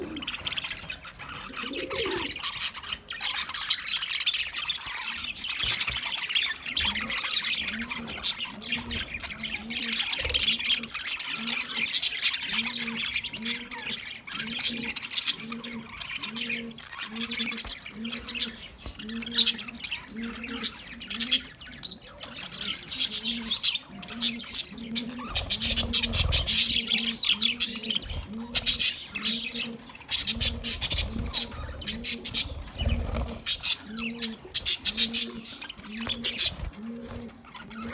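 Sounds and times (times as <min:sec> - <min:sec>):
parrots chattering and squawking: 0:00.0 - 0:37.9.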